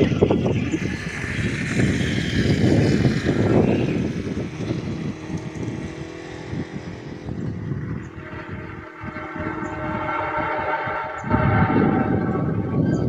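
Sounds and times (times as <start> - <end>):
distant train drone: 0.0 - 13.0
low rumble: 0.0 - 13.0.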